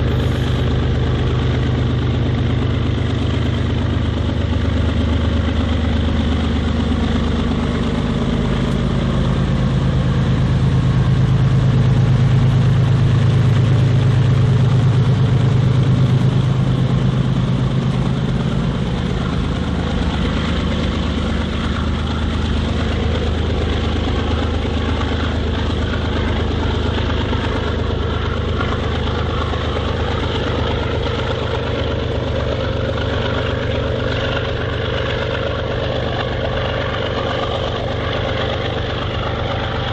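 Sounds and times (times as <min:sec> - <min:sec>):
diesel locomotives rumbling past: 0:00.0 - 0:39.9.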